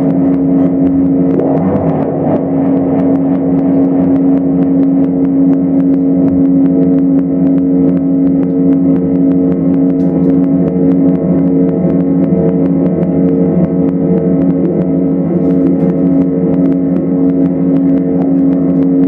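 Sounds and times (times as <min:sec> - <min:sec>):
electronic noise drone: 0:00.0 - 0:19.0.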